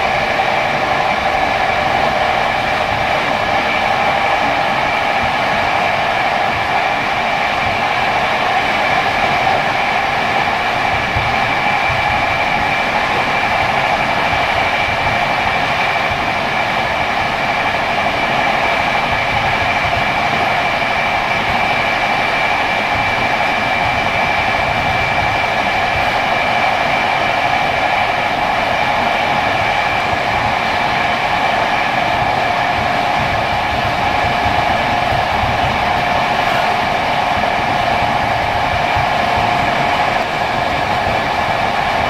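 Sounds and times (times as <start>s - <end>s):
high whine: 0.0s - 42.0s
train rolling on track: 0.0s - 42.0s.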